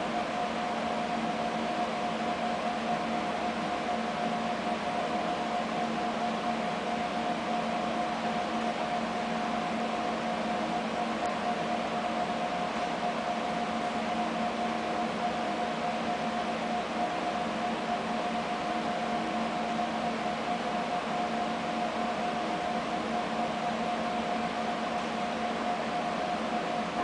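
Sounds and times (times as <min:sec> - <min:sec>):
machinery hum with whine: 0:00.0 - 0:27.0.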